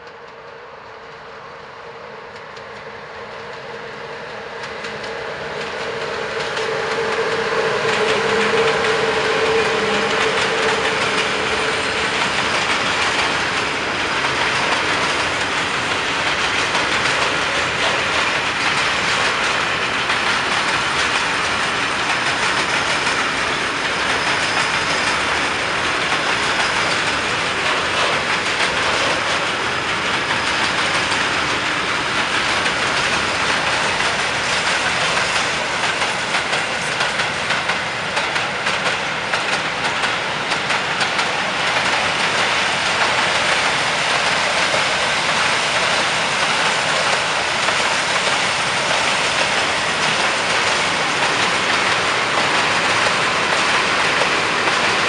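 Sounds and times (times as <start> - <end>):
electric locomotive humming: 0.0 - 55.0
wheels clicking over rail joints: 4.6 - 55.0.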